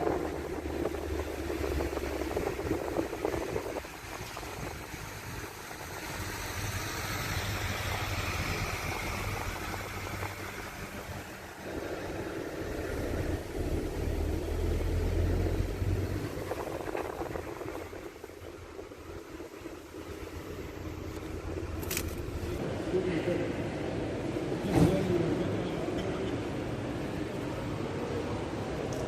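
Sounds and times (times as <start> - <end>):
high engine whine: 0.0 - 24.6
low engine rumble: 0.0 - 29.0.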